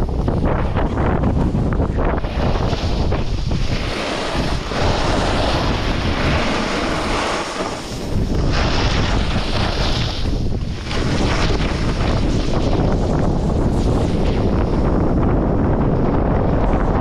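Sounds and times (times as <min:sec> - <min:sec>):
snowboard scraping over snow: 0:00.0 - 0:17.0
wind rumbling on microphone: 0:00.0 - 0:17.0.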